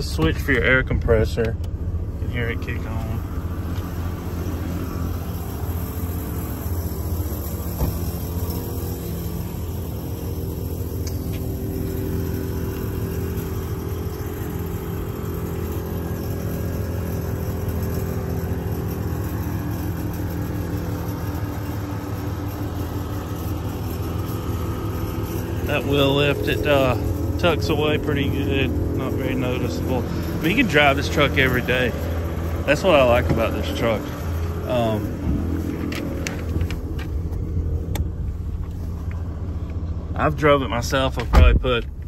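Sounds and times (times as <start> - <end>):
air compressor droning: 0.0 - 42.0.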